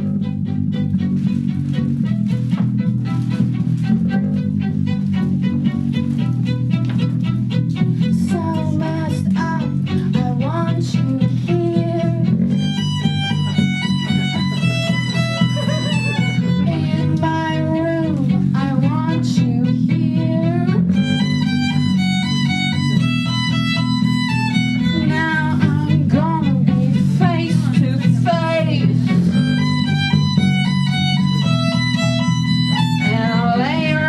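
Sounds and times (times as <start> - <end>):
electric guitar: 0.0 - 34.0
violin: 0.0 - 34.0.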